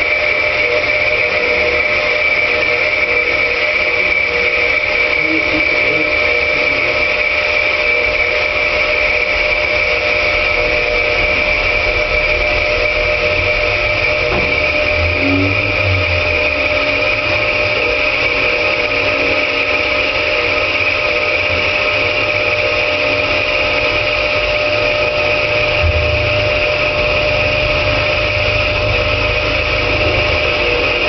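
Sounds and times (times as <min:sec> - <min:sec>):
lathe running with high whine: 0:00.0 - 0:31.0.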